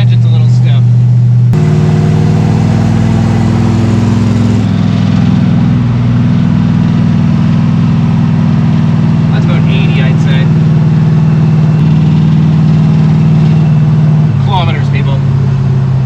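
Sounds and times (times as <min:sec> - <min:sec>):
car engine running under load: 0:00.0 - 0:16.0.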